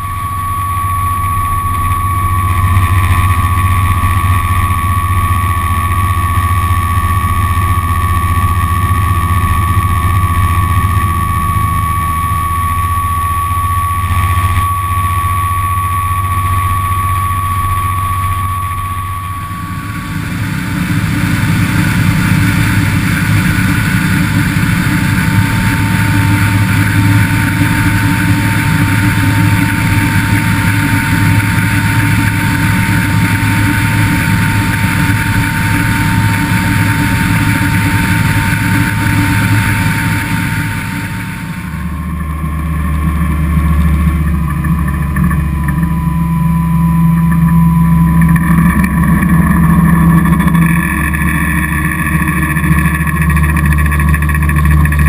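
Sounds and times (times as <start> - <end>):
motorboat engine drone: 0.0 - 55.0.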